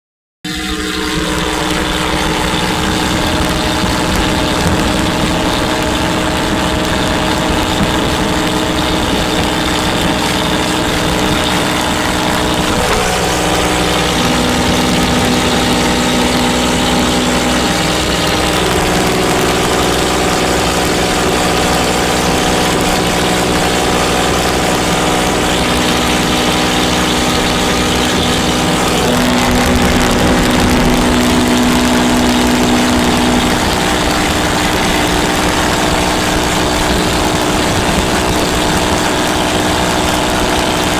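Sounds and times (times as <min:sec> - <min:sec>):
tractor engine running: 0:00.5 - 0:40.9.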